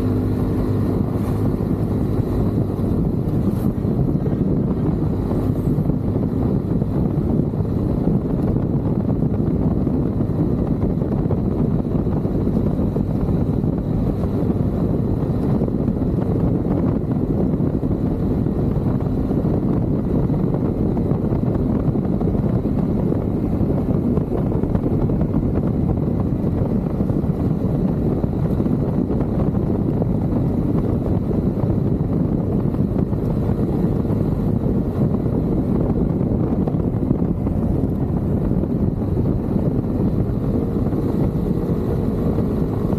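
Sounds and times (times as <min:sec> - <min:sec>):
motorcycle engine rumble: 0:00.0 - 0:42.9
wind on microphone: 0:00.0 - 0:42.9.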